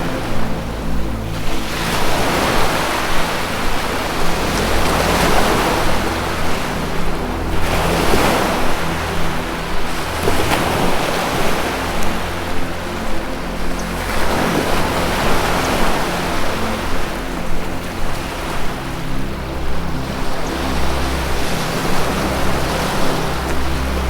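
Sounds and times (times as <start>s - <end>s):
low synth drone: 0.0s - 24.0s
ocean waves washing: 0.0s - 24.0s.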